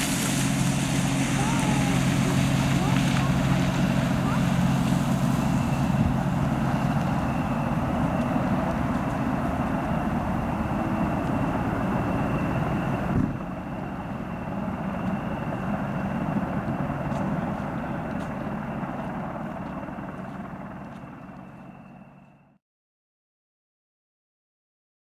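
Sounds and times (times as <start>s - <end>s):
helicopter rotor and engine: 0.0s - 22.6s
high engine whine: 0.0s - 22.6s.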